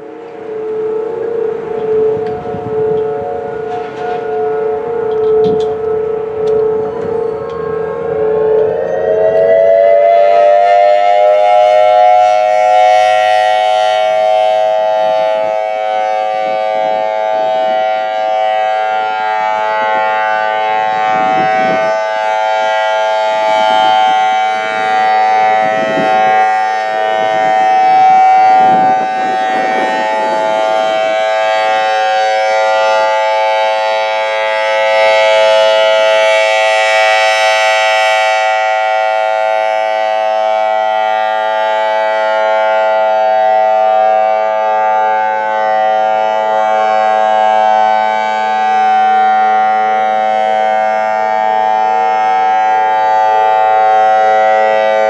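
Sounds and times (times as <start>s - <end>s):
electronic siren steady tone: 0.0s - 55.0s.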